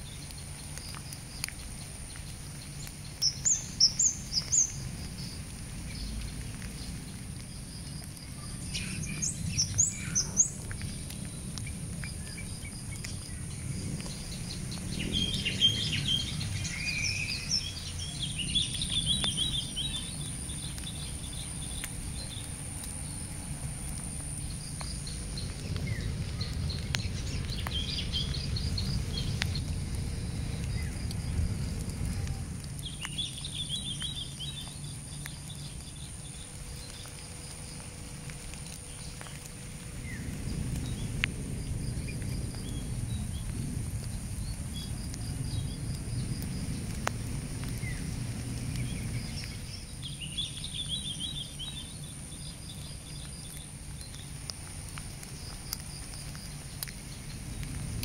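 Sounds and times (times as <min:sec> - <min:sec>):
low steady rumble: 0:00.0 - 0:58.0
small birds chirping: 0:00.0 - 0:58.0.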